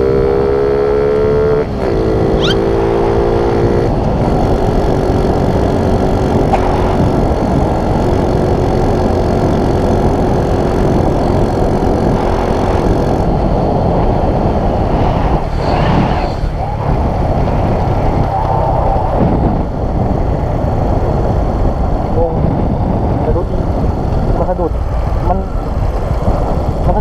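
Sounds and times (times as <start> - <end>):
motorcycle engine running: 0.0 - 15.0, 16.4 - 27.0.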